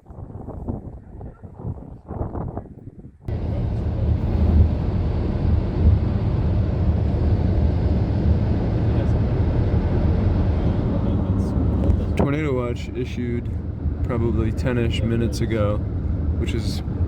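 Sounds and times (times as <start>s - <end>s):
road and engine rumble: 3.3s - 17.0s.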